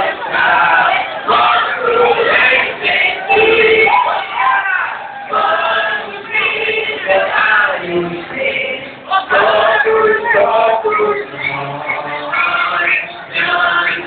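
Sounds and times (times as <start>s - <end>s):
congregation singing a hymn: 0.0s - 4.2s, 5.2s - 14.0s.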